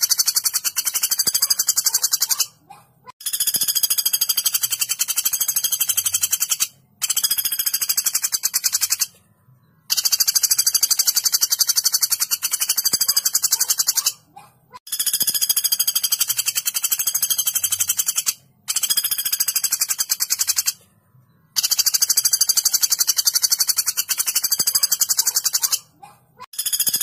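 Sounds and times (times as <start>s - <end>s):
woodpecker rattling call: 0.0s - 2.6s, 3.2s - 9.1s, 9.9s - 20.8s, 21.5s - 27.0s.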